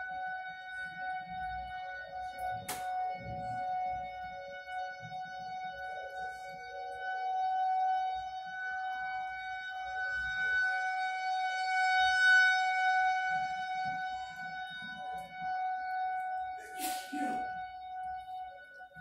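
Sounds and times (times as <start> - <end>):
rotating warning siren: 0.0 - 19.0.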